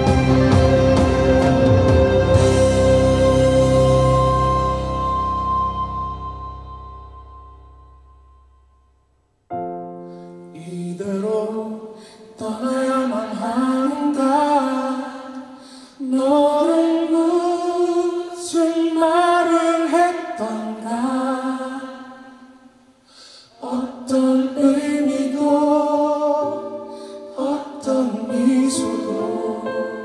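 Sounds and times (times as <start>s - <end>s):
pop ballad through speakers: 0.0s - 7.8s, 9.6s - 22.4s, 23.4s - 30.0s.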